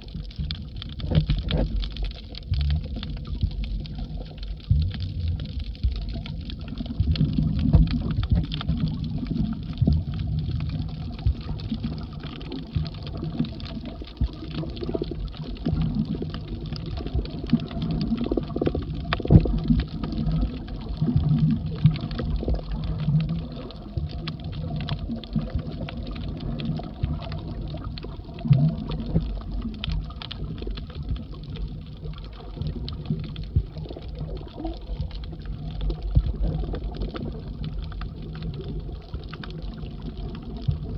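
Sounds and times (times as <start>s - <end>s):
underwater water rumble: 0.0s - 40.9s
faint clicks: 0.1s - 40.9s.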